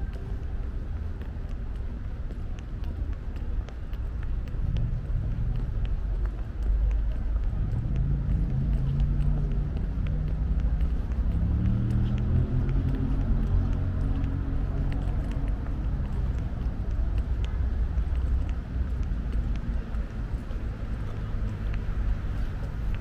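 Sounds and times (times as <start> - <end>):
footsteps clicking on pavement: 0.0 - 23.0
low traffic rumble: 0.0 - 23.0.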